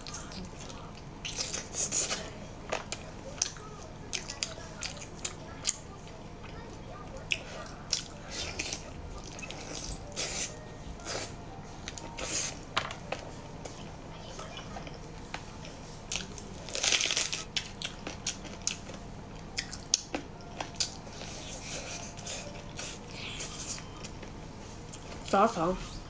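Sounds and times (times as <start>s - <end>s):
crunching and chewing: 0.0s - 25.3s.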